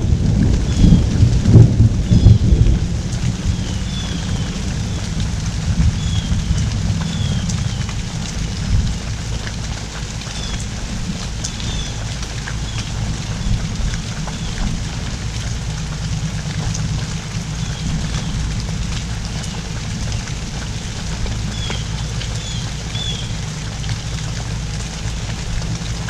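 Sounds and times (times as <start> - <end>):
drips and splashes: 0.0 - 26.0
heavy rain pouring: 0.0 - 26.0
low steady hum: 0.0 - 26.0.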